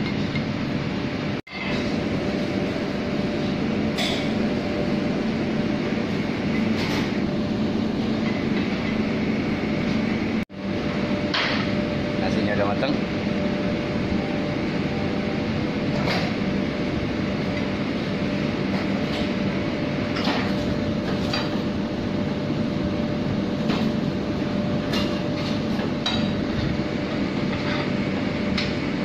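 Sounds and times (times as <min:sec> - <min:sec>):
mechanical room hum: 0:00.0 - 0:29.0.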